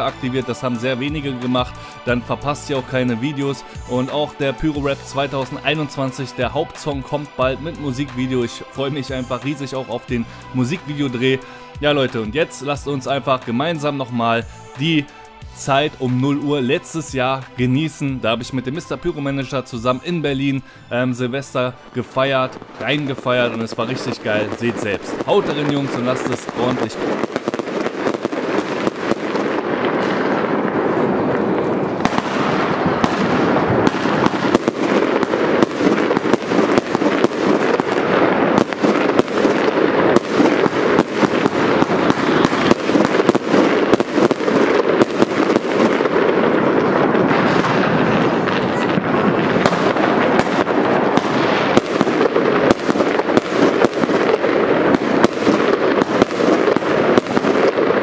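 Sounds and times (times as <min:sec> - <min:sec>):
fireworks crackling: 0:00.0 - 0:58.0.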